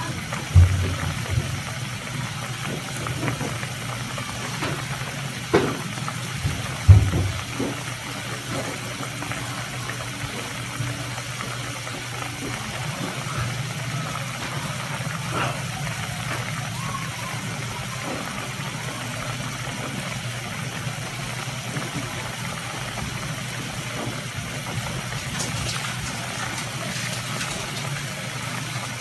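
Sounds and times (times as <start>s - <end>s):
sauce bubbling and popping: 0.2s - 16.8s, 17.6s - 29.0s.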